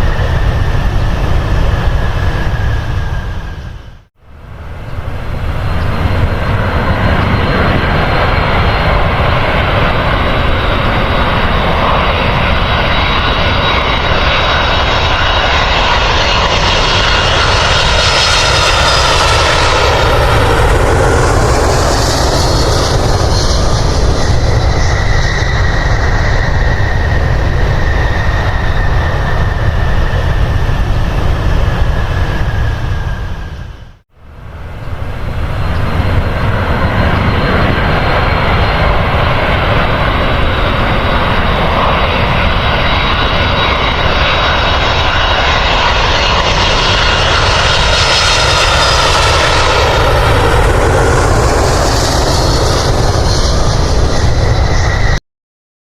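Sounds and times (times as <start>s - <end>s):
jet airliner engines roaring: 0.0s - 55.2s.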